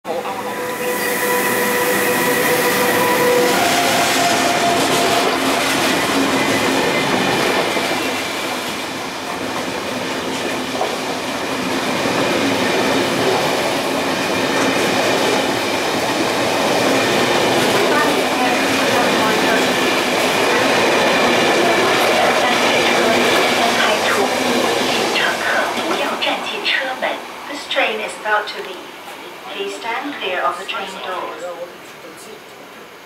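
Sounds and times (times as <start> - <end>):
train passing with rumble: 0.1 - 31.8.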